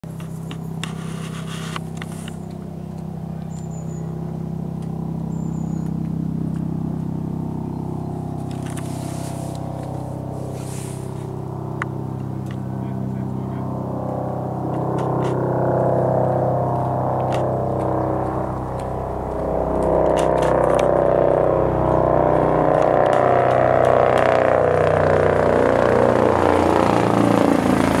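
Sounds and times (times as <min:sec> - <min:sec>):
distant helicopter drone: 0:00.0 - 0:28.0.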